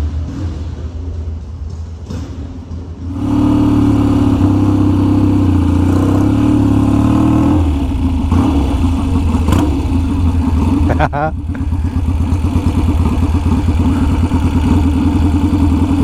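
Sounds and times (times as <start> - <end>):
motorcycle engine revving: 2.0 - 16.0.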